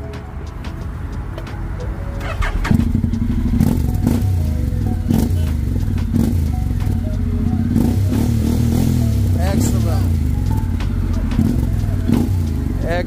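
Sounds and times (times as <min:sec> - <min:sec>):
exhaust cracks: 0:02.1 - 0:13.0
motorcycle engine idling: 0:02.1 - 0:13.0.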